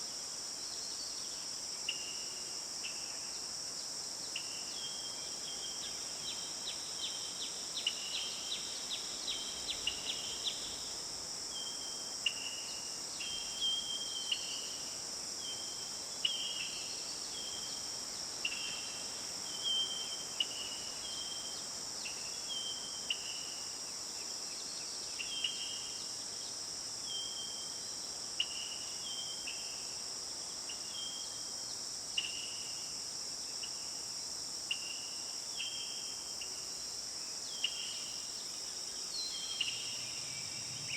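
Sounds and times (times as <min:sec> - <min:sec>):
high insect chorus: 0:00.0 - 0:40.9.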